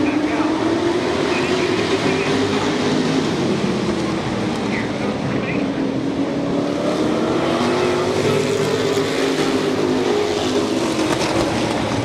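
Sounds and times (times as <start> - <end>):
race truck engines: 0.0 - 12.0.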